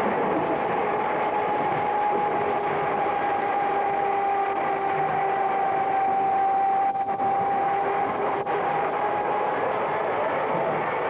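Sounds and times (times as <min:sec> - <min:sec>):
tram rumbling along track: 0:00.0 - 0:11.0
tram whine: 0:00.0 - 0:11.0.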